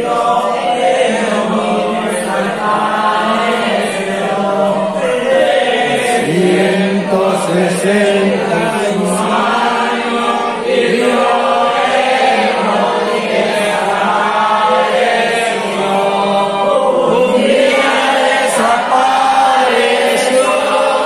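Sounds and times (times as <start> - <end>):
congregation singing a hymn: 0.0 - 21.0.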